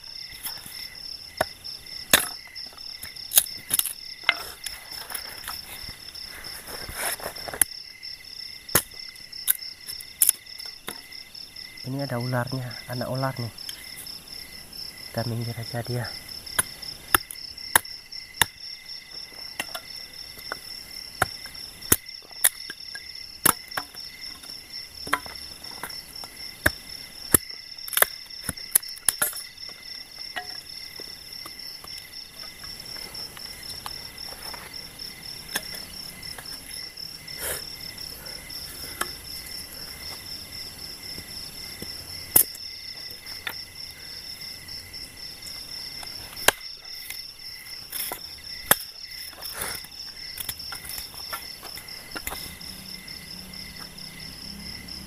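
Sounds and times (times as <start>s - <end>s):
crickets and insects trilling: 0.0s - 55.0s.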